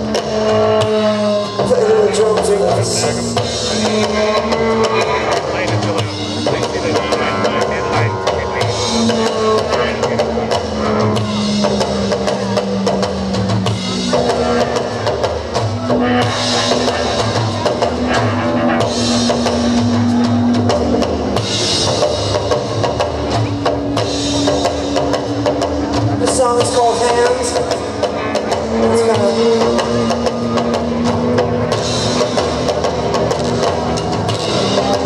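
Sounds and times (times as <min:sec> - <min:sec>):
drum kit beating: 0:00.0 - 0:35.0.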